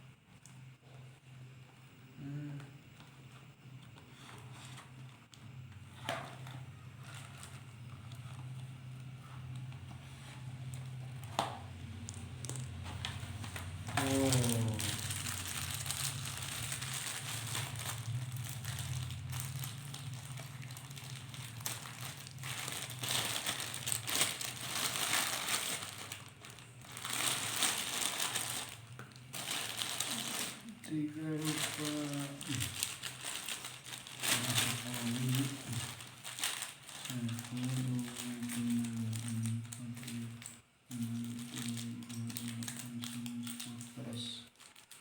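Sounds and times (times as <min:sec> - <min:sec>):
steady low hum: 0:00.0 - 0:44.5
plastic packaging crinkling: 0:04.1 - 0:45.0.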